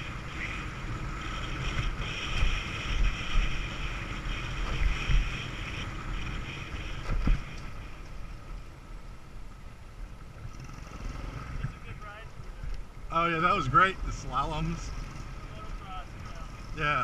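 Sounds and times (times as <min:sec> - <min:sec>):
moped engine running: 0:00.0 - 0:08.8, 0:09.9 - 0:12.6, 0:13.4 - 0:17.0.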